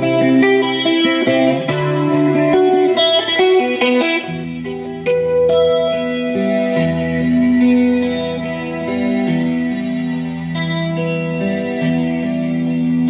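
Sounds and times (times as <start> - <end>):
rock ballad on car speakers: 0.0 - 13.0.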